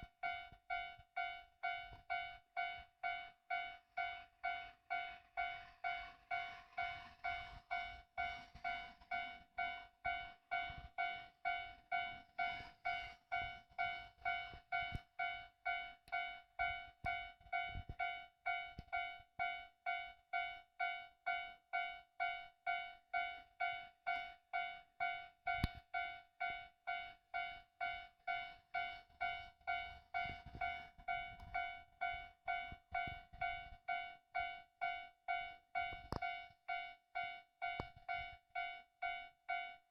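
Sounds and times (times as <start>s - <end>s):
level-crossing warning bell ringing: 0.0s - 39.9s.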